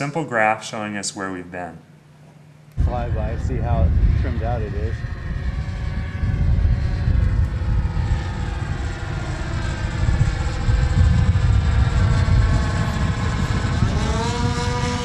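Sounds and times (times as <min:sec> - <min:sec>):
model airplane engines droning: 0:02.5 - 0:15.0
wind rumble on microphone: 0:02.8 - 0:15.0.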